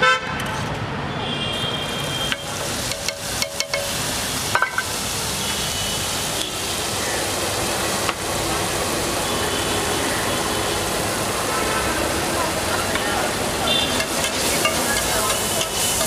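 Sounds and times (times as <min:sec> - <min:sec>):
paneer sizzling in oil: 0:01.8 - 0:16.0.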